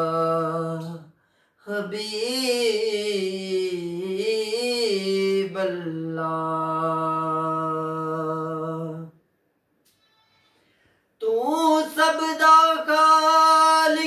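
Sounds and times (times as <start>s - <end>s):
man singing unaccompanied: 0.0s - 9.2s, 11.2s - 14.0s.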